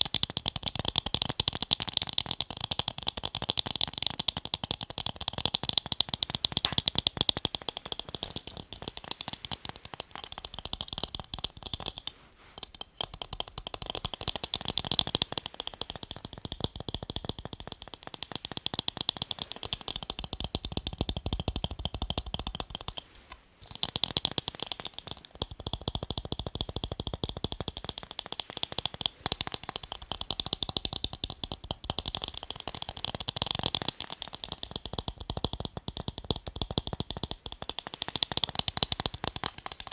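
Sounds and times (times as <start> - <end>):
tapping on eyeglasses: 0.0 - 39.9.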